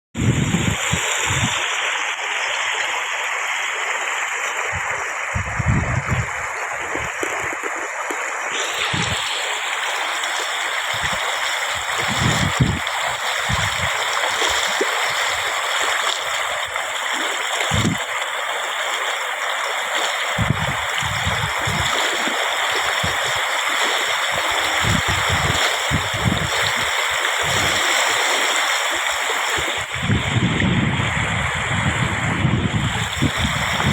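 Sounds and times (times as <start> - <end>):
floodwater rushing and gurgling: 0.2 - 33.9.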